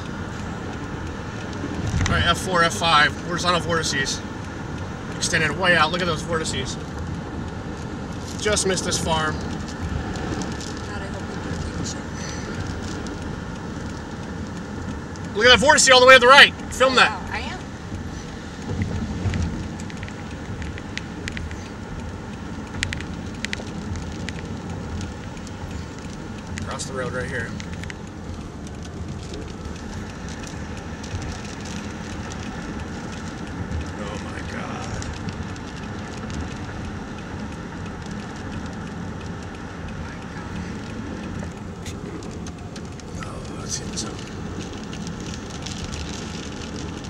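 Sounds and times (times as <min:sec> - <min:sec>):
low rumble: 0:00.0 - 0:47.0
sharp ticks: 0:00.0 - 0:47.0
storm wind rushing on microphone: 0:00.0 - 0:47.0.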